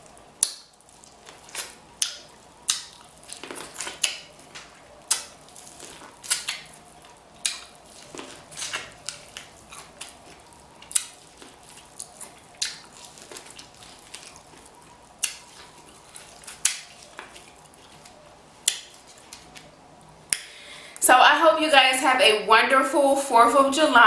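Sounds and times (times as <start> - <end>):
chewing with mouth smacks: 0.0 - 20.5.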